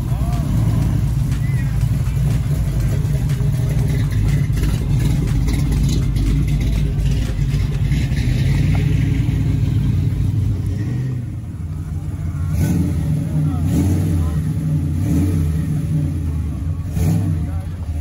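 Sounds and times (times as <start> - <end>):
car engines rumbling past: 0.0 - 18.0.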